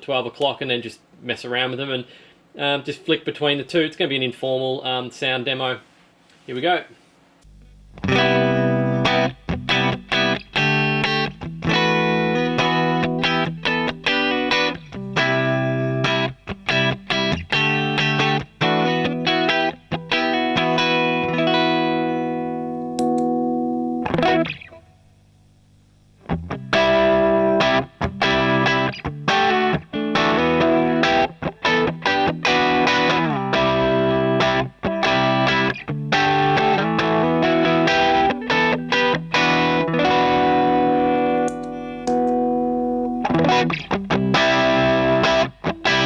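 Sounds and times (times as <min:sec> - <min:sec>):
overdriven electric guitar chords: 0:07.4 - 0:46.0.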